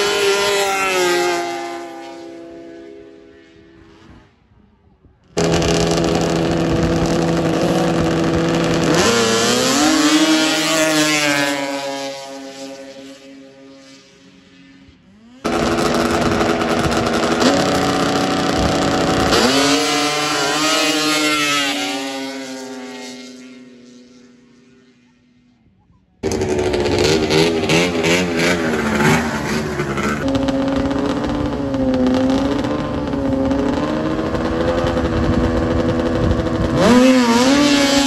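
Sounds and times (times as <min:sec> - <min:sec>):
snowmobile engines racing: 0:00.0 - 0:04.4, 0:05.3 - 0:25.3, 0:26.2 - 0:38.0.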